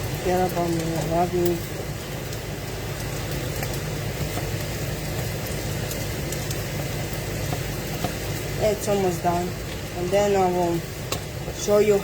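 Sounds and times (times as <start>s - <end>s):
food sizzling on stove: 0.0s - 12.0s.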